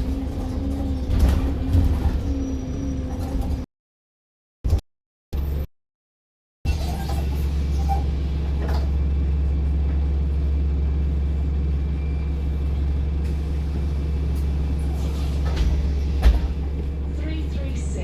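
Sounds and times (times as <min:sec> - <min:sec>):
bus engine droning: 0:00.0 - 0:03.6, 0:06.7 - 0:18.0.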